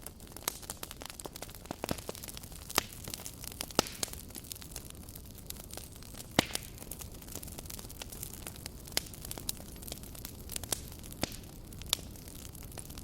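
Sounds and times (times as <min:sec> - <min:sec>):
low rumble of flames: 0:00.0 - 0:13.0
wood crackling and popping: 0:00.0 - 0:13.0.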